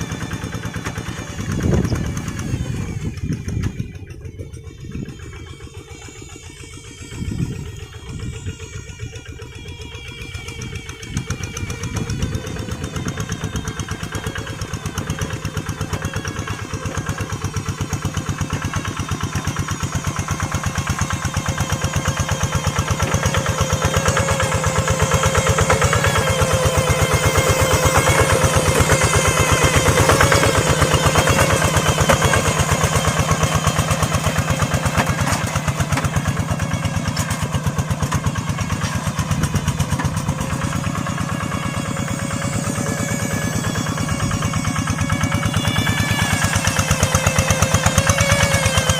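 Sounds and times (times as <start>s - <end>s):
hand tractor engine pulsing: 0.0s - 48.9s.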